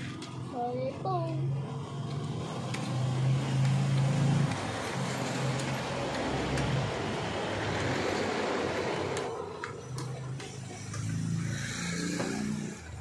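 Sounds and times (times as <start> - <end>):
motor vehicle passing: 0.0 - 13.0.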